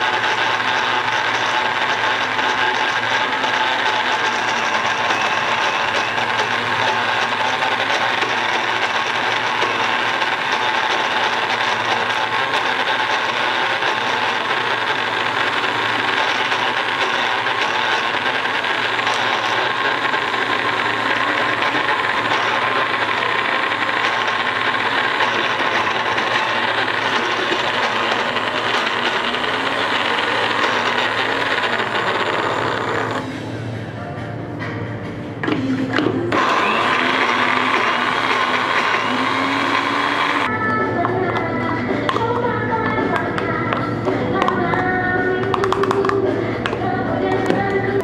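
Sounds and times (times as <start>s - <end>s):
electric blender motor running: 0.0s - 33.5s, 35.4s - 40.6s.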